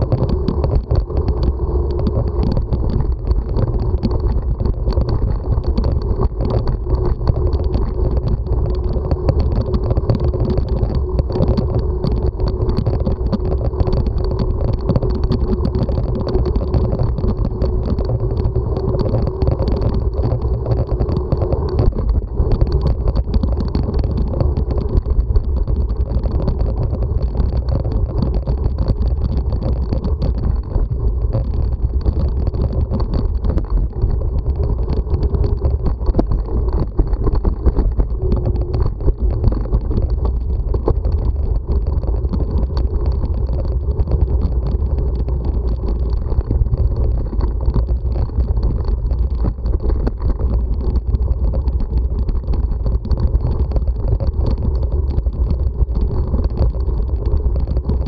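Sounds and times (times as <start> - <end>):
bicycle tyres rolling on dirt: 0.0 - 58.0
faint steady hum: 0.0 - 58.0
wind on microphone: 0.0 - 58.0.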